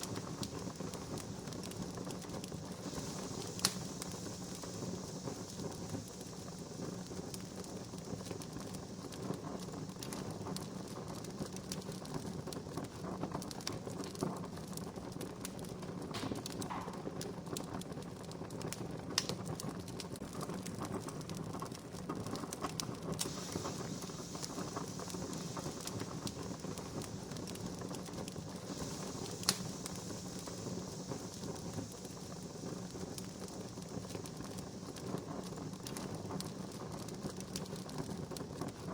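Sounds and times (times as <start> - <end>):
low hiss of fire: 0.0 - 38.9
sharp pops of wood fire: 0.0 - 38.9.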